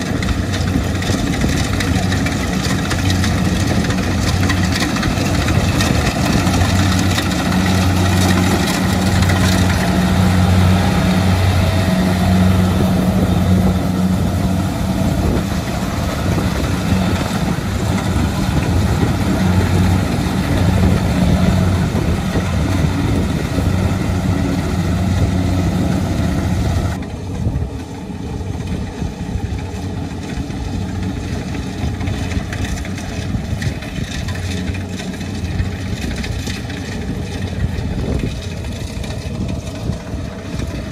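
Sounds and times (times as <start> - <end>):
diesel engine running: 0.0 - 40.9
harvesting machinery clatter: 0.0 - 40.9.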